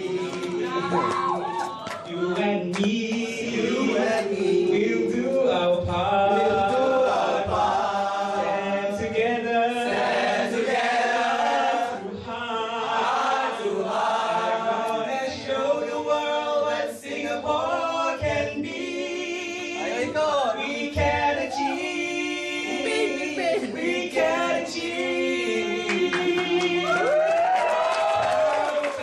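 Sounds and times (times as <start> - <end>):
young men singing together: 0.0 - 29.0.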